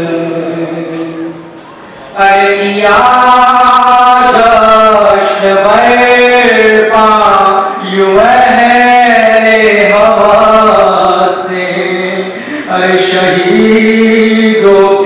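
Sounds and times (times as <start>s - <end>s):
man chanting a lament: 2.2s - 15.0s.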